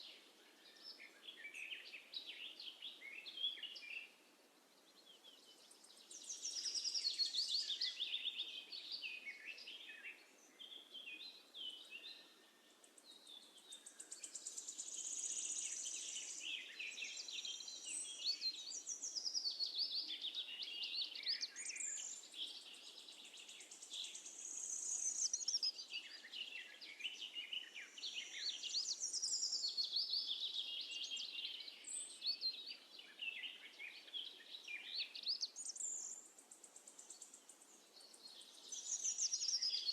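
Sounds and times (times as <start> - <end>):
flock of sparrows chirping: 0.0 - 4.2, 4.9 - 39.9.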